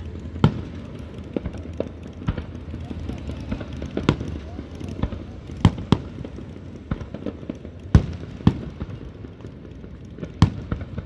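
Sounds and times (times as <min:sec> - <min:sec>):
firework shells booming: 0:00.0 - 0:11.0
small firework pops: 0:00.0 - 0:11.0.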